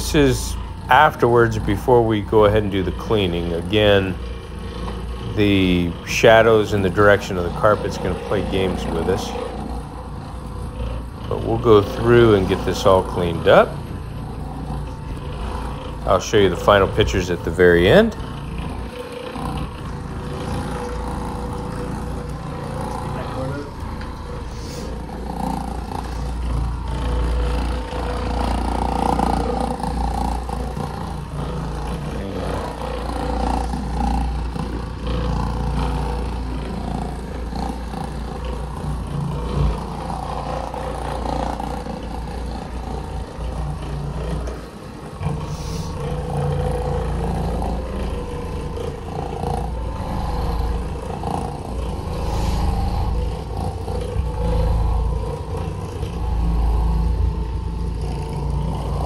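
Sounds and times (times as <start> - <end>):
floor machine motor humming: 0.0 - 59.0.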